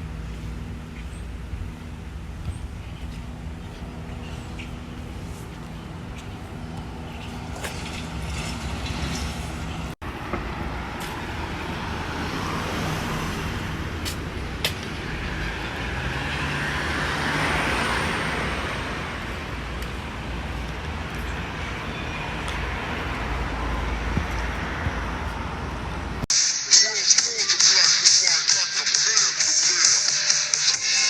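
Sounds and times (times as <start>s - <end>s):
vehicle engines: 0.0s - 26.3s
tyres on road: 0.0s - 31.0s.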